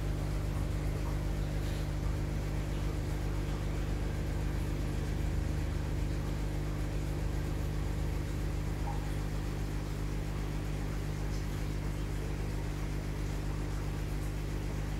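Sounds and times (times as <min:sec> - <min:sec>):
air pump humming: 0:00.0 - 0:14.9.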